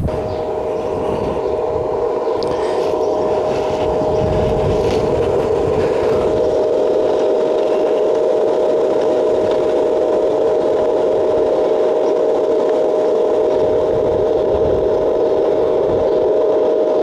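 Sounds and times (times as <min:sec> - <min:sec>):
low rumble: 0:00.0 - 0:17.0
welding arc buzzing: 0:00.0 - 0:17.0.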